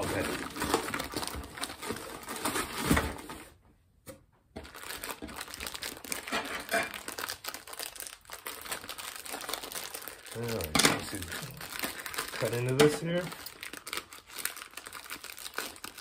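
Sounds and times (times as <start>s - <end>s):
plastic shrink-wrap crinkling: 0.0s - 3.5s, 4.6s - 16.0s.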